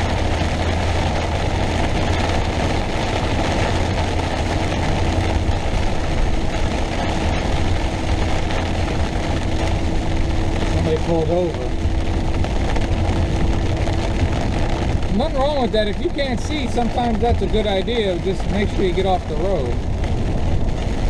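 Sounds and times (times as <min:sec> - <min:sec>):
engine and road drone: 0:00.0 - 0:21.0
heavy rain on vehicle roof: 0:00.0 - 0:21.0.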